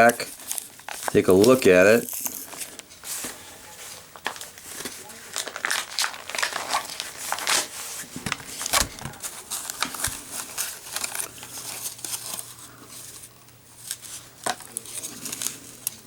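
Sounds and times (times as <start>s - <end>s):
plastic blister pack crinkling: 0.0s - 3.3s, 4.1s - 16.0s.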